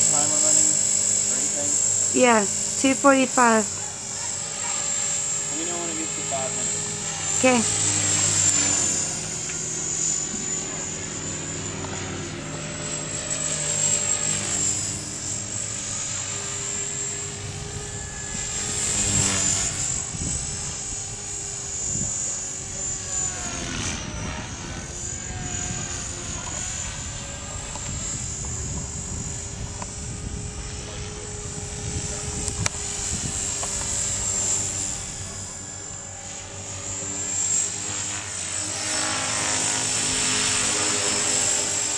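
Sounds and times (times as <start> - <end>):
rc helicopter motor whine: 0.0 - 41.9.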